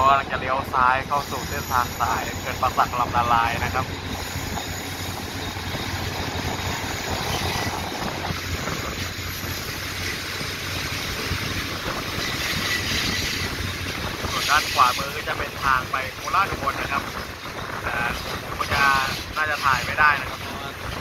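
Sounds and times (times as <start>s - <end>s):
train rumbling slowly: 0.0s - 21.0s.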